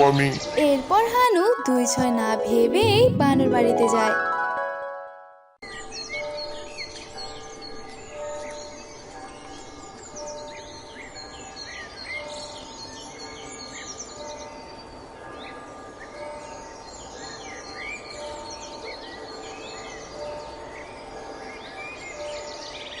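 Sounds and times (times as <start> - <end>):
birds chirping and twittering: 0.0 - 2.0, 5.6 - 23.0.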